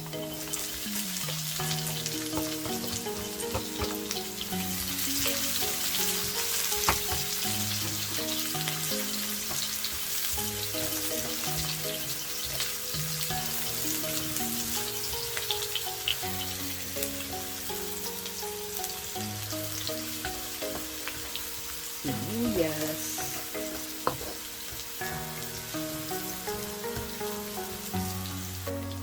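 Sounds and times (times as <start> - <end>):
meat and garlic sizzling in a pan: 0.0 - 29.0
soft background music: 0.0 - 29.0.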